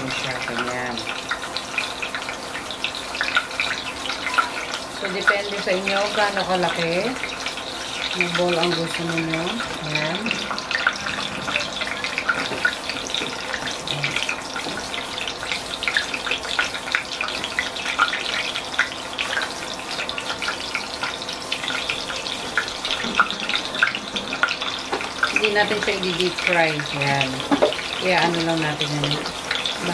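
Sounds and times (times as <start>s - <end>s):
meatballs sizzling in oil: 0.0s - 29.9s.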